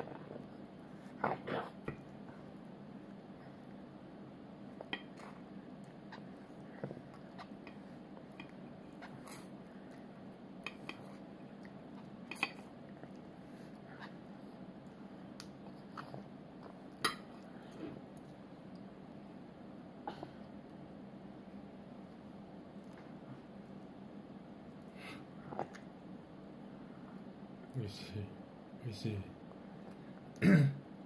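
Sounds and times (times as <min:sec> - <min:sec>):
soft chewing: 0:00.0 - 0:27.8, 0:29.4 - 0:31.0
steady low hum: 0:00.0 - 0:31.0.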